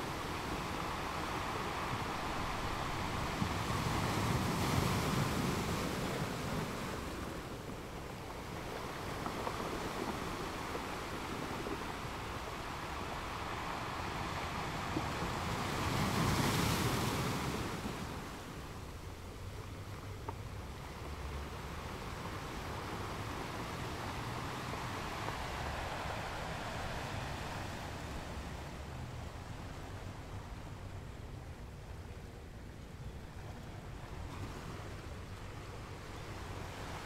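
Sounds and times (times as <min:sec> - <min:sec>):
waves breaking on shore: 0:00.0 - 0:37.0.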